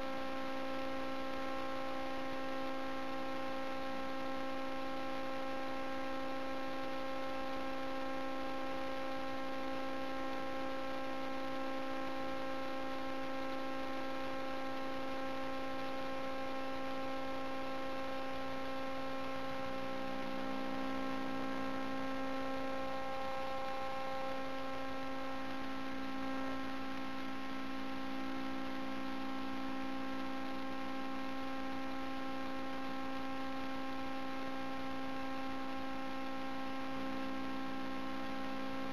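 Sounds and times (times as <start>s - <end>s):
steady pitched hum: 0.0s - 38.9s.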